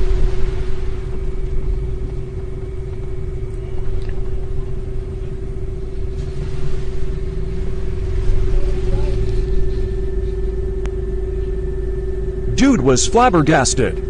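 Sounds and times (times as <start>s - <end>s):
road and tyre rumble: 0.0s - 12.8s
constant hum: 0.0s - 14.0s.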